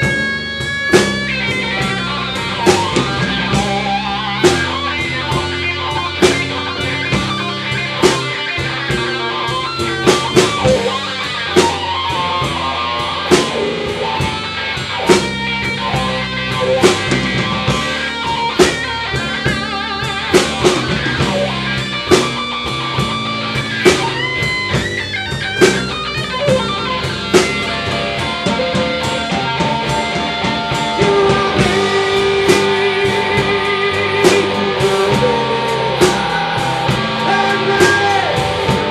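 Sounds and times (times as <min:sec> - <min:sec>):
acoustic-electric guitar: 0:00.0 - 0:38.9
electric guitar: 0:00.0 - 0:38.9
steady drum beat: 0:00.0 - 0:38.9.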